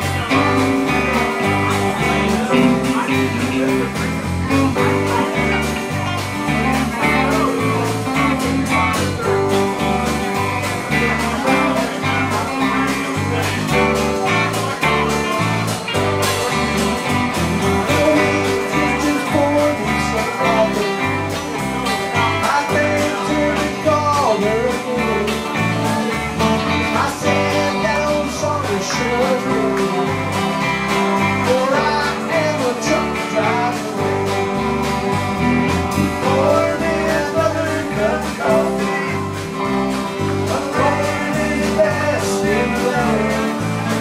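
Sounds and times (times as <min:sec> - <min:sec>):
electric bass notes: 0:00.0 - 0:44.0
electric guitars: 0:00.0 - 0:44.0
steady drum beat: 0:00.0 - 0:44.0.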